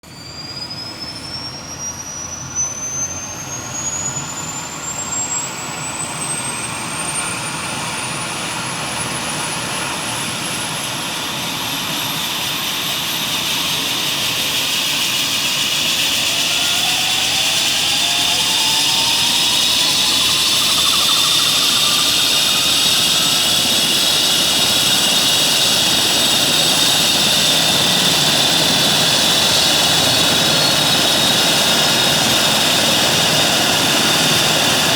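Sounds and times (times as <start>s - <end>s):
lower turbine whine: 0.0s - 34.9s
helicopter turbine whine: 0.1s - 34.9s.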